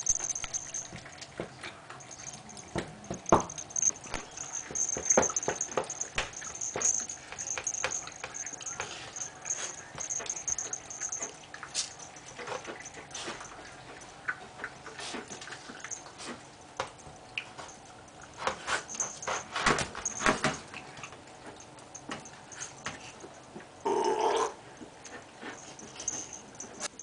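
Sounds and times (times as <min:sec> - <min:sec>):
dogs eating from bowls: 0:00.0 - 0:27.0.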